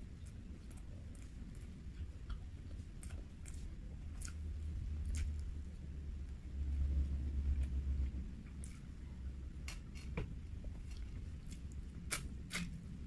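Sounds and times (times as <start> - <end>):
low rumble: 0.0 - 13.0
person chewing food: 0.0 - 13.0.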